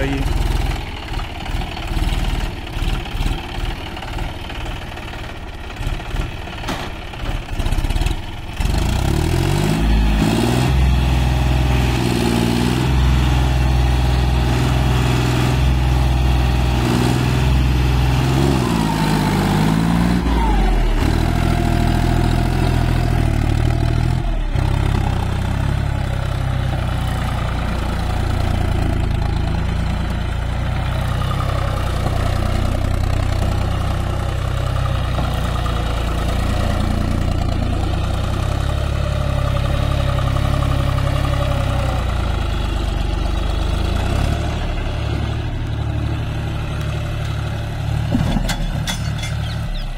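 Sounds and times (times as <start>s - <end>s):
tractor diesel engine revving: 0.0s - 49.9s.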